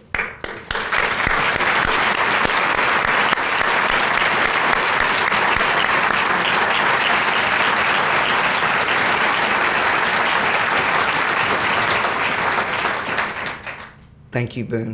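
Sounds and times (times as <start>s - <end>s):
people applauding: 0.0s - 14.0s.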